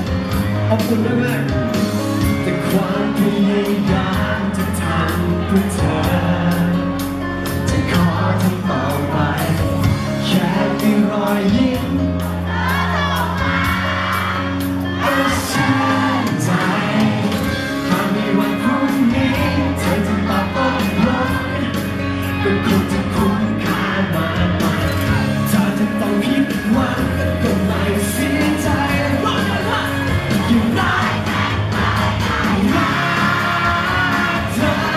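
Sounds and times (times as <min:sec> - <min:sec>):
young man singing: 0:00.0 - 0:31.5, 0:32.5 - 0:34.9
backing music with steady beat: 0:00.0 - 0:34.9.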